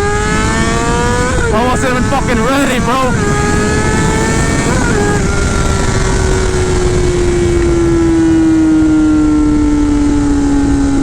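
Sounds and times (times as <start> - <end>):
motorcycle engine at high revs: 0.0 - 11.0
wind and road noise: 0.0 - 11.0.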